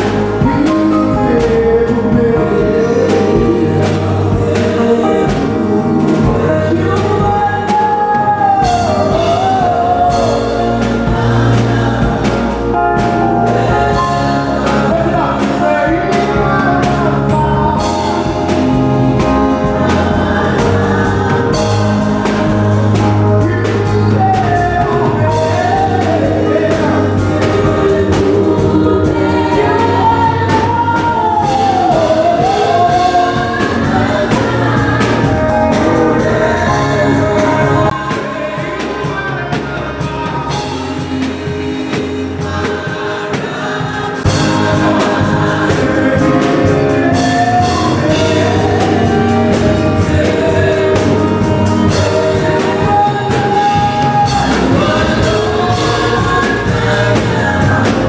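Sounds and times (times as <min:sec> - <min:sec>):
band playing: 0:00.0 - 0:58.0
choir singing: 0:00.0 - 0:58.0.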